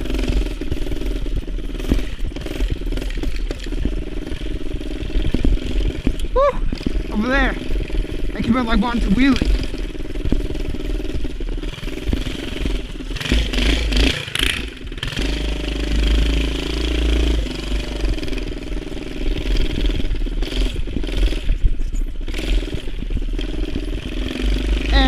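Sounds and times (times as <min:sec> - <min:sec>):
mini bike engine revving: 0:00.0 - 0:25.0.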